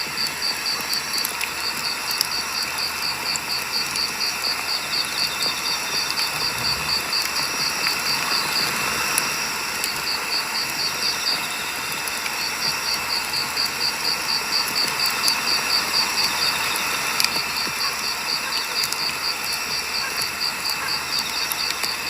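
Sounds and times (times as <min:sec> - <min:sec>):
campfire hissing and crackling: 0:00.0 - 0:22.0
crickets chirping: 0:00.1 - 0:22.0.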